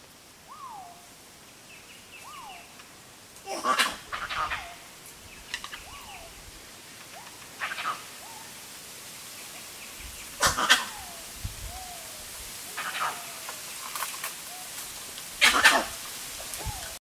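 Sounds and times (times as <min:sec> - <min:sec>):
bird calls: 0:00.4 - 0:08.6, 0:09.3 - 0:17.0
rustling crackles: 0:02.2 - 0:17.0.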